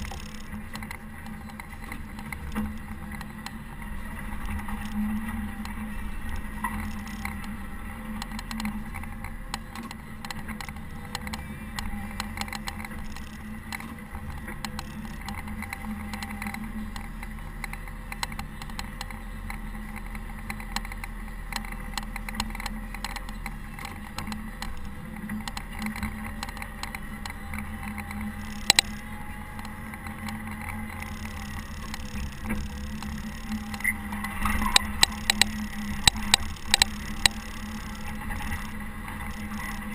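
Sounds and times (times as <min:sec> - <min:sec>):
diesel engine running: 0:00.0 - 0:39.9
light rattling clicks: 0:00.0 - 0:39.9.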